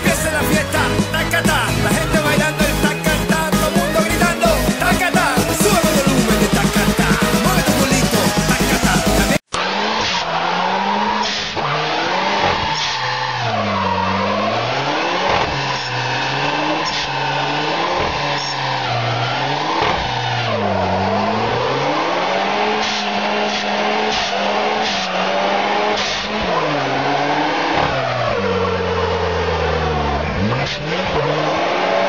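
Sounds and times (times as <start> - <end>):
tyres squealing: 0.0 - 31.4
car engine revving hard: 0.0 - 32.0.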